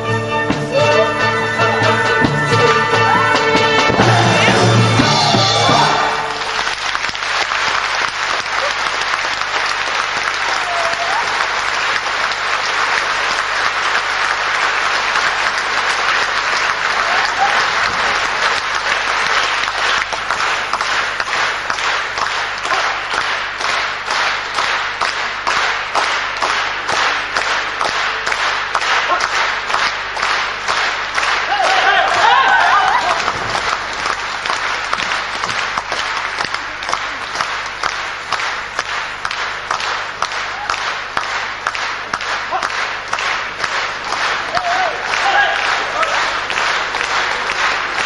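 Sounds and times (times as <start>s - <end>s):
audience applauding: 0.5s - 48.0s.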